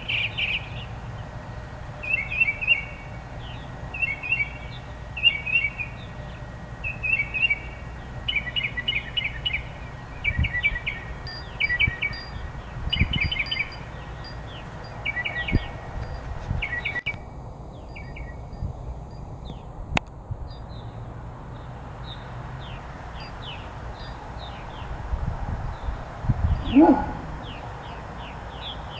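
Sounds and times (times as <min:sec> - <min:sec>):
songbird singing: 0:00.0 - 0:01.4, 0:02.0 - 0:28.9.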